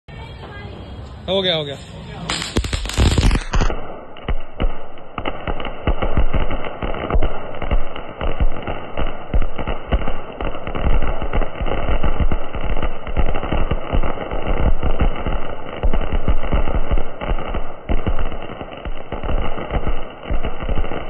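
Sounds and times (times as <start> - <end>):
firework fountain hissing: 0.2 - 21.0
crackling pops: 2.3 - 21.0.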